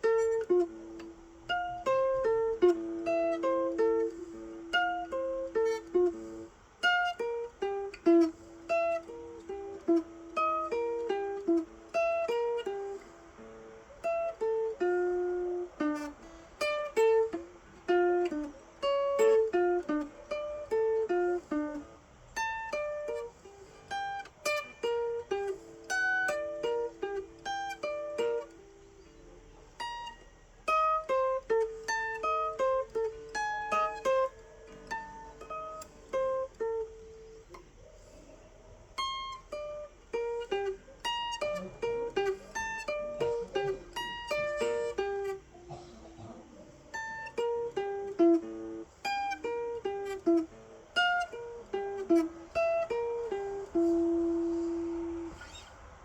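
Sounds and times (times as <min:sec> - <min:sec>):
guitar plucking a melody: 0:00.0 - 0:56.0.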